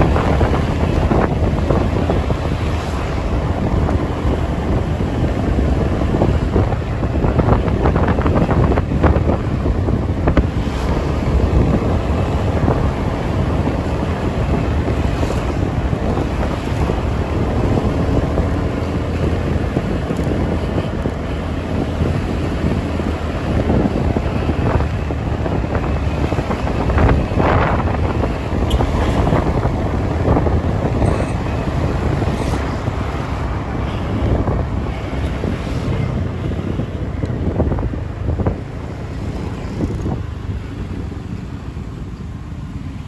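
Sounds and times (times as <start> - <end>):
traffic rumble: 0.0 - 43.0
wind buffeting microphone: 0.0 - 43.0.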